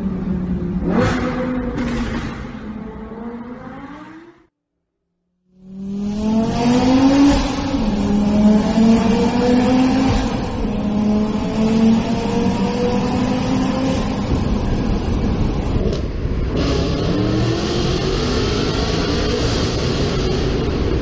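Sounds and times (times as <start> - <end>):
car engine accelerating hard: 0.0 - 4.5, 5.7 - 21.0.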